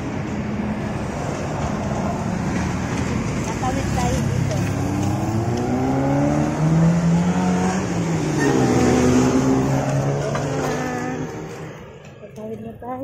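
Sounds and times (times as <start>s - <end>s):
small truck passing: 0.0s - 12.3s
vehicle engines pulling away: 0.0s - 12.3s
motorcycle passing: 0.0s - 12.4s.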